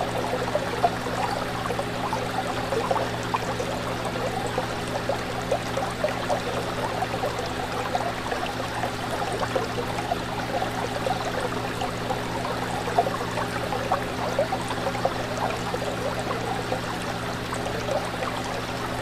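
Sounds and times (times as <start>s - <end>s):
pump humming: 0.0s - 19.0s
water bubbling and trickling: 0.0s - 19.0s.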